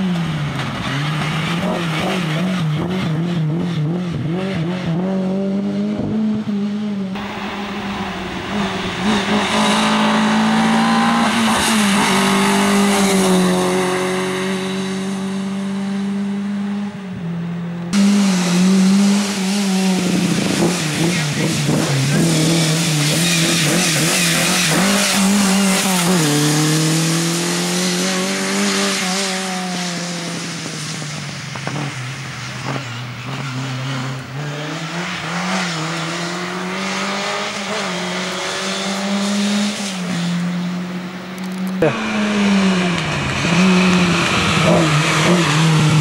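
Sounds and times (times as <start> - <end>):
rally car engine revving: 0.0 - 46.0.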